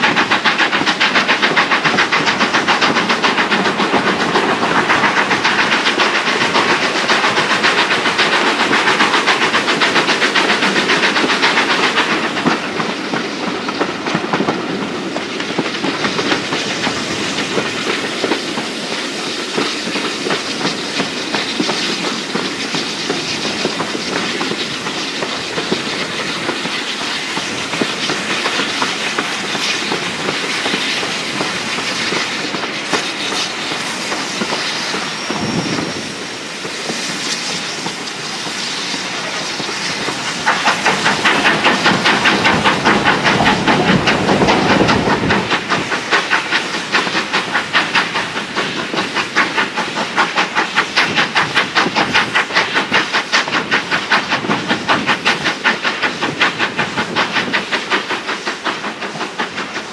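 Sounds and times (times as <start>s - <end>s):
steam locomotive exhaust beats: 0.0s - 59.9s
train wheels clacking on rail joints: 0.0s - 59.9s.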